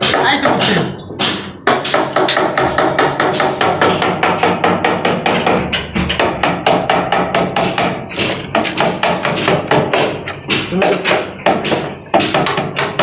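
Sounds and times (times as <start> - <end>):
hammer chipping brick: 0.0 - 13.0.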